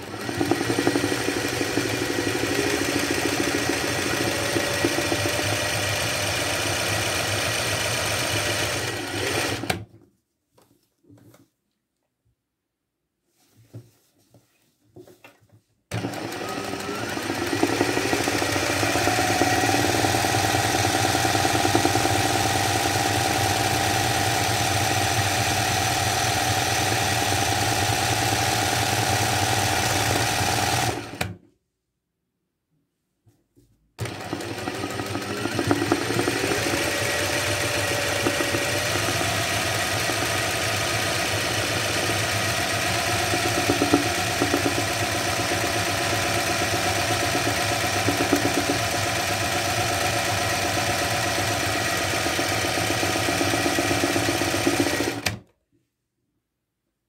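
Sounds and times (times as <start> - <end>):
sewing machine stitching: 0.0 - 9.9, 15.9 - 31.4, 34.0 - 55.4.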